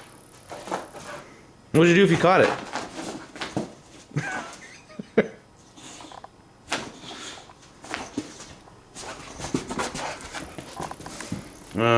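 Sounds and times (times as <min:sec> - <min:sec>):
dog claws scuffling on floor: 0:00.0 - 0:04.2, 0:05.7 - 0:11.8.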